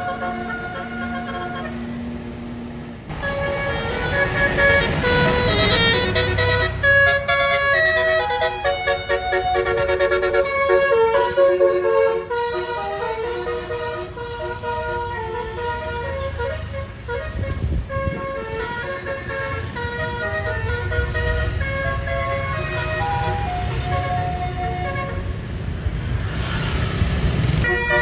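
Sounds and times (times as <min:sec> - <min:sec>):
bus air horns playing melody: 0:00.0 - 0:02.2, 0:03.1 - 0:25.7, 0:27.5 - 0:28.0.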